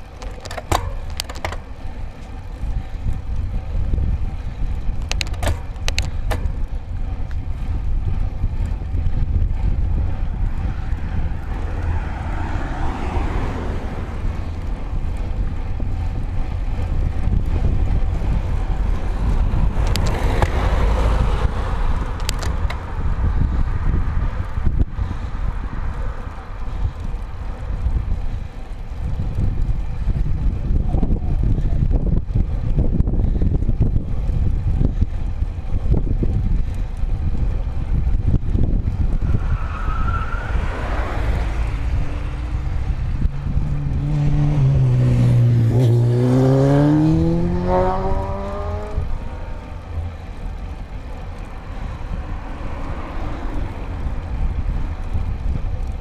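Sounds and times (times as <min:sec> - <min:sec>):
bike tyres rumbling on tarmac: 0:00.0 - 0:56.0
wind buffeting microphone: 0:00.0 - 0:56.0.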